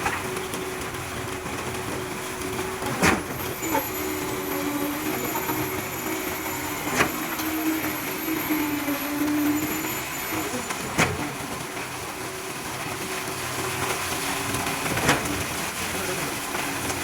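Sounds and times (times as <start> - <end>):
machine engine running: 0.0 - 17.0.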